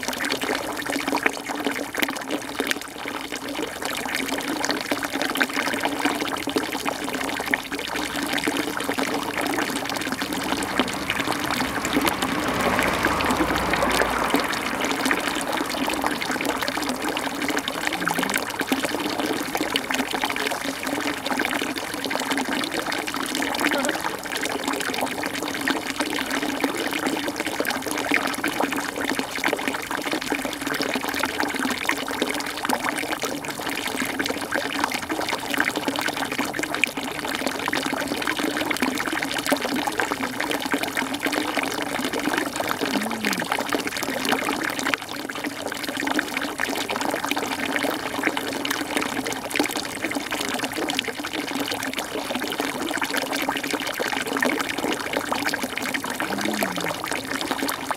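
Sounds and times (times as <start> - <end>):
running water: 0.0 - 57.9.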